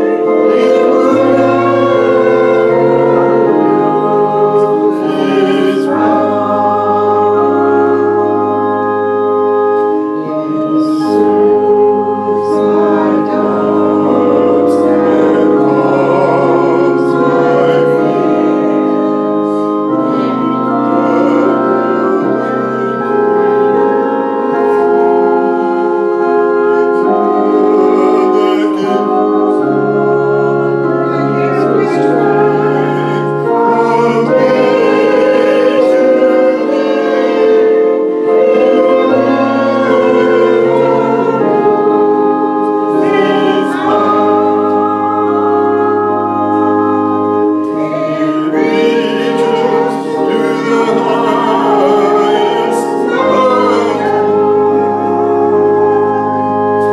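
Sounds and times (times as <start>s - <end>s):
congregation singing a hymn: 0.0s - 56.9s
organ accompaniment: 0.0s - 56.9s.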